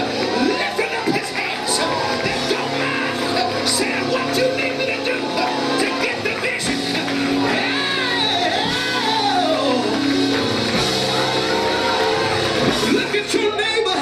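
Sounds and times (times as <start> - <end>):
church music chords: 0.0 - 14.0.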